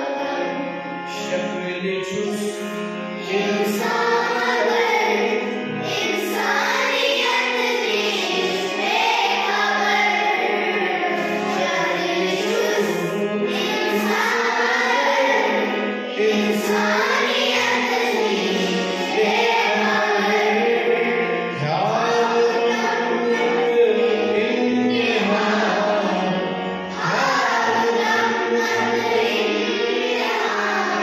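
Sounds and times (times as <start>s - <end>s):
children singing in unison: 0.0s - 1.3s, 3.1s - 31.0s.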